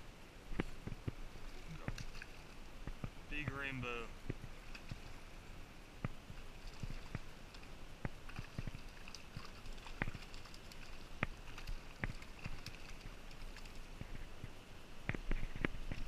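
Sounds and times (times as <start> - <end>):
creek water running: 0.0 - 16.0.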